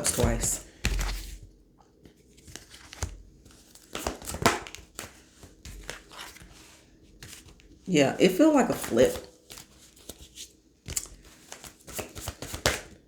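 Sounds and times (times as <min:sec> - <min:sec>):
cards rustling and slapping: 0:00.0 - 0:07.8, 0:08.7 - 0:13.0.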